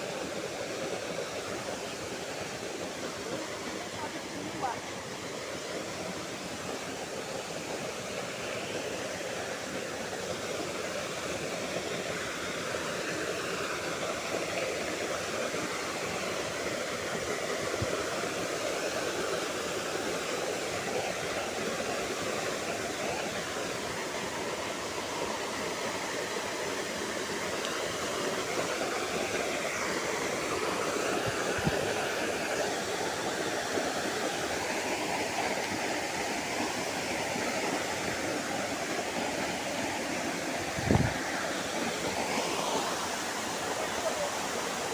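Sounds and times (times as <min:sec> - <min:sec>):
river water flowing over rocks: 0:00.0 - 0:44.9.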